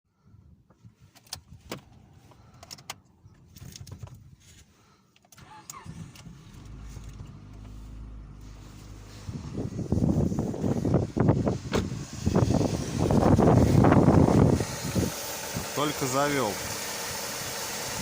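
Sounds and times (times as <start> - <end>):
car engine cranking and idling: 0.5 - 18.0.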